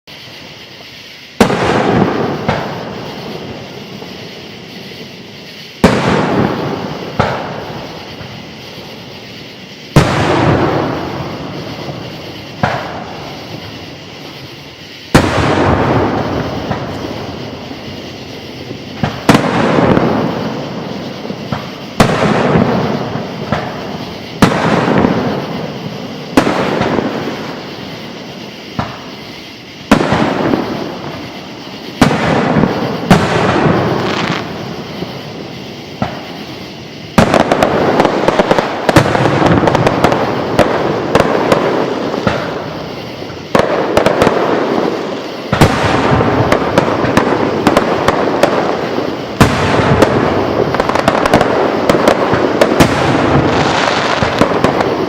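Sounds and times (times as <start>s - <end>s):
fireworks banging and booming: 0.0s - 55.0s
fireworks crackling: 0.0s - 55.0s.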